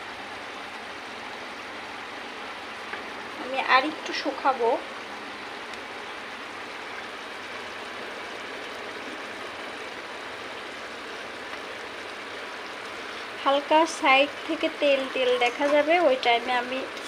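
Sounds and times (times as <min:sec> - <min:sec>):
curry bubbling in a pot: 0:00.4 - 0:17.0.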